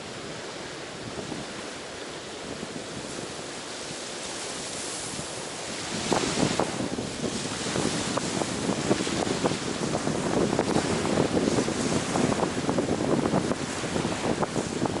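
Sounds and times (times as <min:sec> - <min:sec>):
foam and water crackling: 0:00.0 - 0:15.0
ocean surf washing onto shore: 0:00.0 - 0:15.0.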